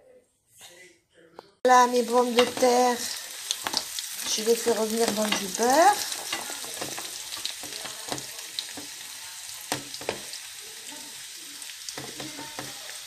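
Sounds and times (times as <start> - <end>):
potatoes sizzling in butter: 1.7 - 13.0.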